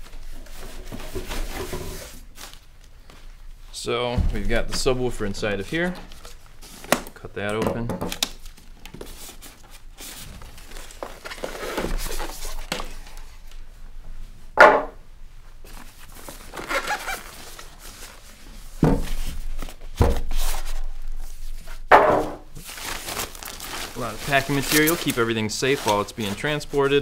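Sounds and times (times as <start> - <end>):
plastic wrap rustling: 0.0 - 3.4, 4.2 - 7.2, 8.2 - 13.6, 15.6 - 21.9, 22.5 - 27.0.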